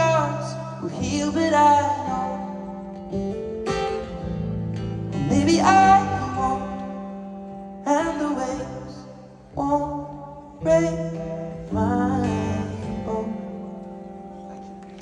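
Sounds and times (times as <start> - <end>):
man singing: 0.0 - 3.1, 5.2 - 15.0
strummed acoustic guitar: 0.0 - 15.0.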